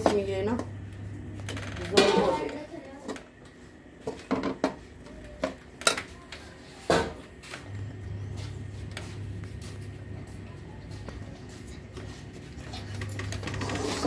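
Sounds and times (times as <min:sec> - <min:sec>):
low steady hum: 0:00.0 - 0:13.4.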